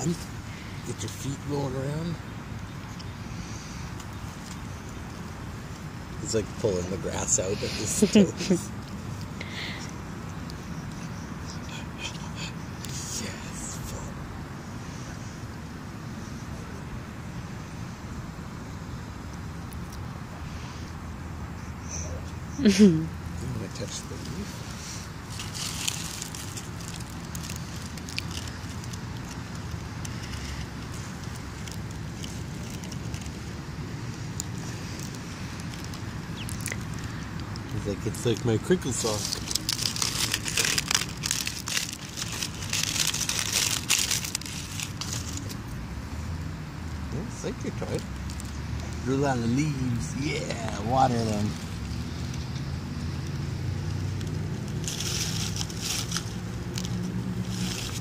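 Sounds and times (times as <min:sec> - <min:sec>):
dry leaves crackling underfoot: 0:00.0 - 0:14.0, 0:22.8 - 0:46.2, 0:47.1 - 0:58.0
low outdoor rumble: 0:00.0 - 0:58.0.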